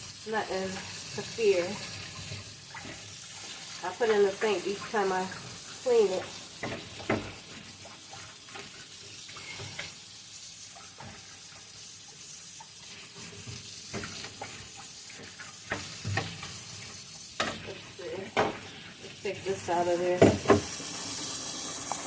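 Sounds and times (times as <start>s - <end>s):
faucet running into sink: 0.0s - 22.0s.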